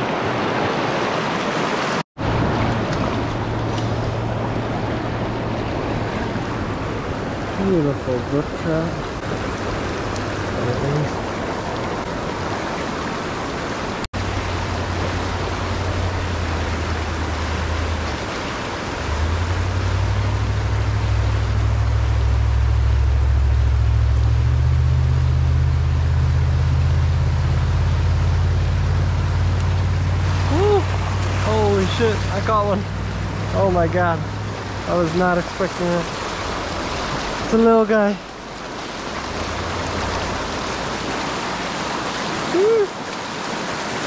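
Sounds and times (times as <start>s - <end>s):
creek rushing: 0.0s - 44.0s
deep rumble: 2.2s - 12.5s, 14.1s - 42.2s.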